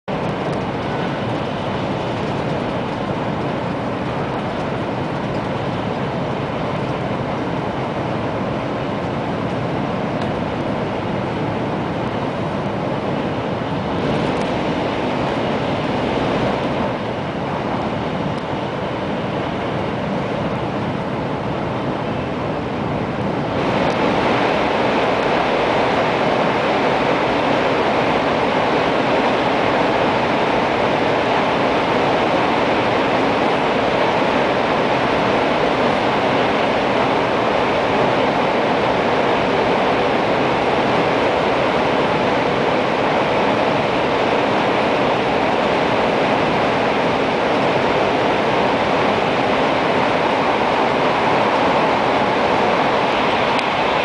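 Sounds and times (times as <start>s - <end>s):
train cabin wind and running noise: 0.0s - 54.0s.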